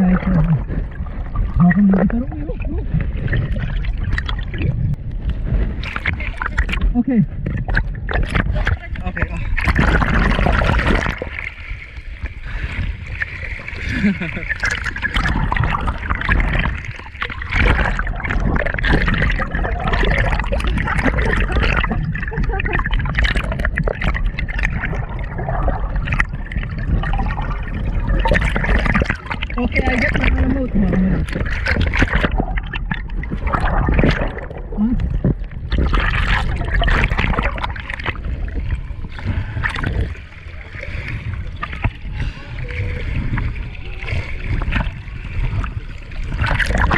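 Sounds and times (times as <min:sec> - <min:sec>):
steady low rumble: 0:00.0 - 0:46.9
water splashing and sloshing: 0:00.0 - 0:46.9.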